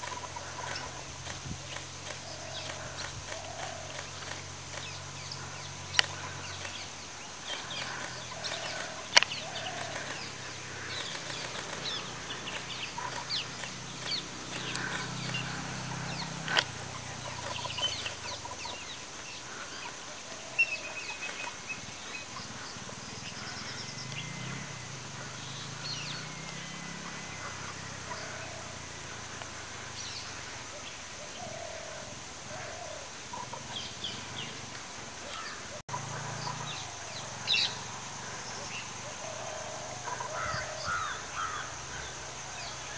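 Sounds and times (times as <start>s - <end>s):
bird calls: 0.0s - 42.9s
insect drone: 0.0s - 42.9s.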